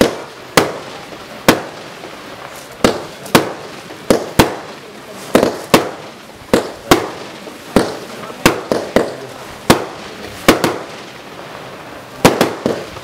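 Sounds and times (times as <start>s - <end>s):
firework bangs echoing: 0.0s - 13.0s.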